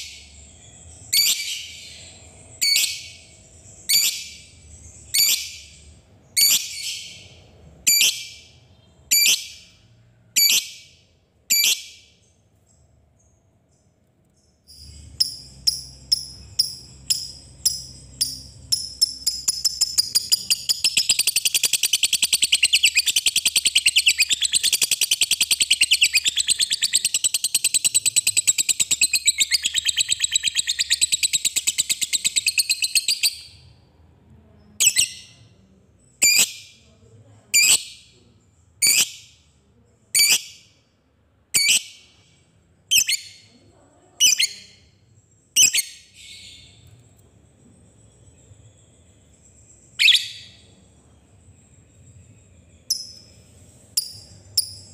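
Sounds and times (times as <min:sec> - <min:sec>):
lovebird chirping and trilling: 0:00.0 - 0:09.8, 0:10.4 - 0:13.3, 0:14.5 - 0:33.7, 0:34.7 - 0:36.8, 0:37.6 - 0:38.1, 0:38.8 - 0:39.4, 0:40.1 - 0:40.7, 0:41.5 - 0:42.2, 0:42.9 - 0:43.6, 0:44.2 - 0:46.8, 0:48.1 - 0:50.9, 0:51.6 - 0:54.9.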